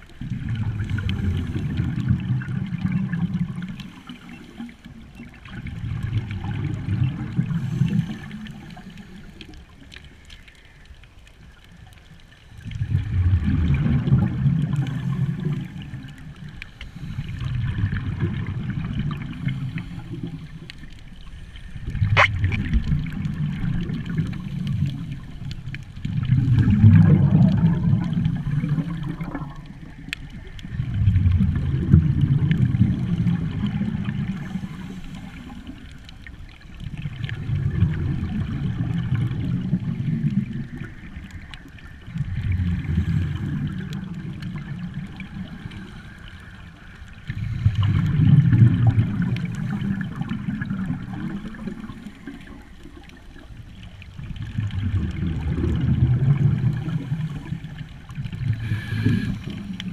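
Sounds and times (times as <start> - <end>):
underwater bubbling exhalations: 0.0 - 9.8, 12.6 - 59.9.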